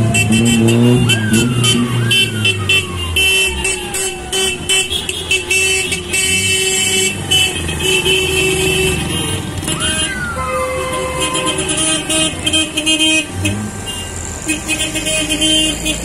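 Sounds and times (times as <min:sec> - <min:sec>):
police siren: 0:00.0 - 0:07.4, 0:08.8 - 0:14.4
car horns honking: 0:00.0 - 0:16.0.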